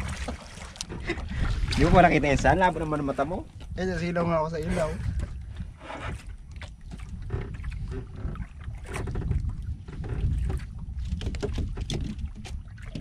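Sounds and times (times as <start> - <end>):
wind and water around boat: 0.0 - 13.0.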